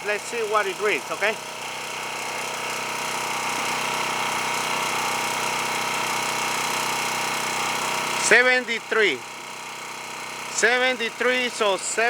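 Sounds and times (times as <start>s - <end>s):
portable generator running: 0.0s - 12.0s.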